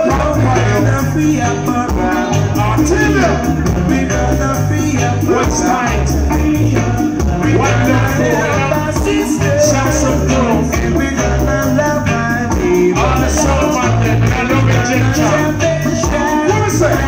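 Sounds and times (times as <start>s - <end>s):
heavy bass line: 0.0s - 17.0s
person singing: 0.0s - 17.0s
reggae music over loudspeakers: 0.0s - 17.0s.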